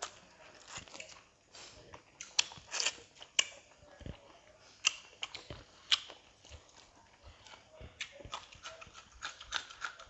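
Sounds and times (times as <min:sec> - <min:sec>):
chewing: 0:00.0 - 0:10.0.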